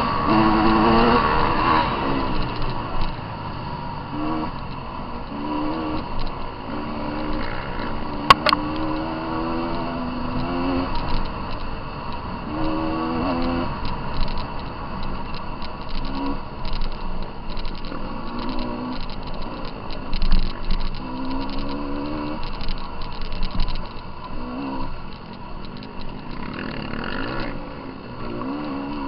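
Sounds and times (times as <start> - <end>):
motorcycle engine revving: 0.0 - 29.0
steady rushing noise: 0.0 - 29.0.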